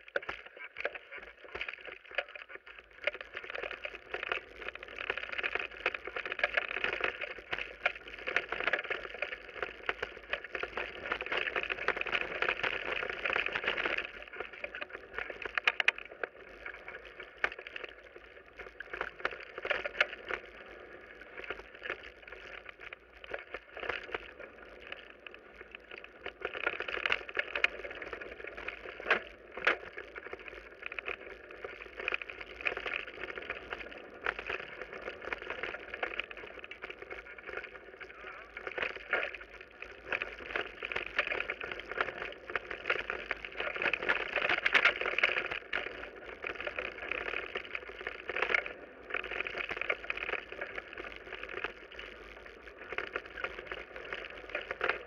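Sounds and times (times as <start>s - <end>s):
bike tyres rumbling on gravel: 0.0s - 55.0s.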